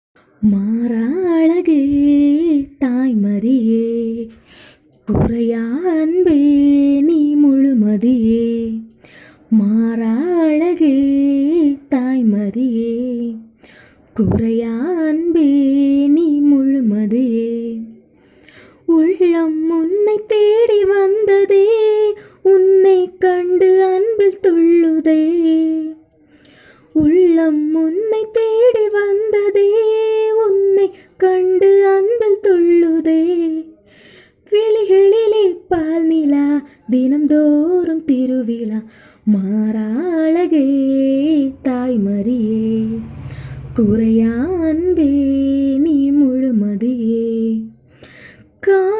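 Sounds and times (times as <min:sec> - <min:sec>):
woman singing unaccompanied: 0:00.2 - 0:18.1, 0:18.8 - 0:26.2, 0:26.9 - 0:47.8, 0:48.5 - 0:48.9.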